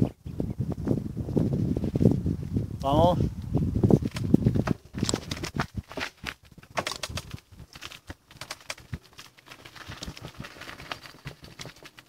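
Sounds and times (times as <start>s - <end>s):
bicycle rolling over dirt: 0.7s - 2.8s, 3.5s - 12.0s.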